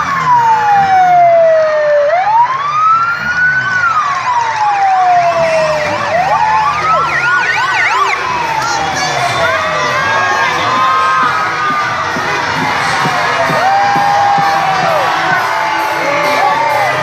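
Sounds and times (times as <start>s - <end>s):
fast yelping siren: 0.0s - 17.0s
slow wailing police siren: 0.0s - 17.0s.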